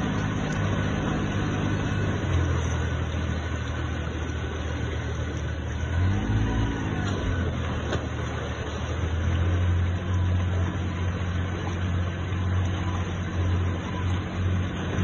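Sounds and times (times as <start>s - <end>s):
churning water rushing: 0.0s - 15.0s
motorboat engine drone: 0.0s - 15.0s.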